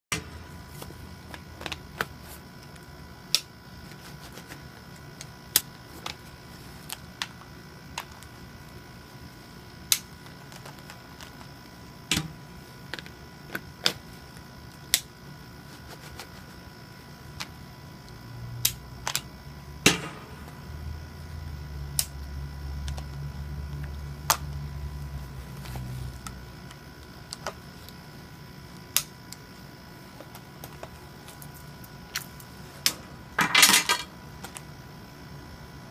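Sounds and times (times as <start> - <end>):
faint steady hum: 0.1 - 35.9.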